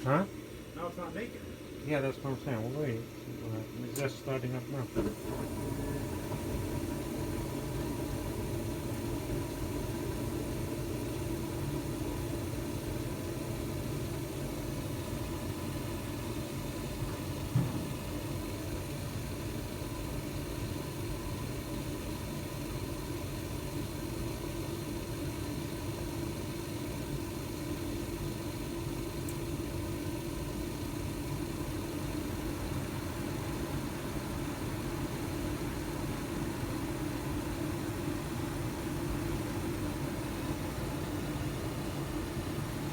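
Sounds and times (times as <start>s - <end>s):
gas furnace humming: 0.0s - 42.9s.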